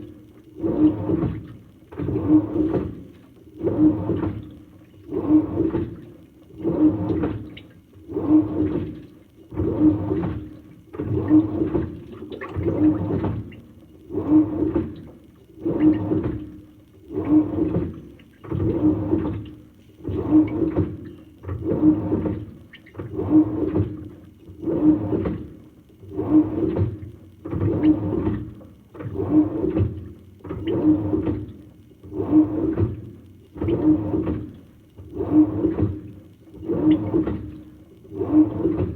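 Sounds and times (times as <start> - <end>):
washing machine sloshing water: 0.0 - 38.9.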